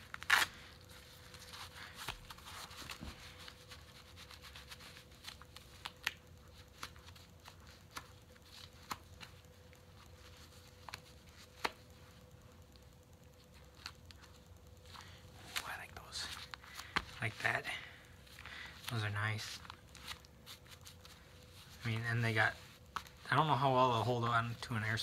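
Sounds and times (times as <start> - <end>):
faint steady hum: 0.0 - 25.0
gloves fabric rustling: 0.0 - 25.0.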